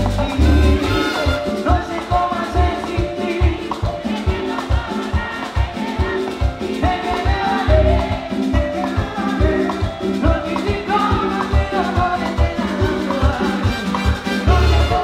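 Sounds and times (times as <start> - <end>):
hand percussion: 0.0 - 15.0
lead singer singing: 0.0 - 15.0
pulsing bass: 0.0 - 15.0
salsa band playing: 0.0 - 15.0.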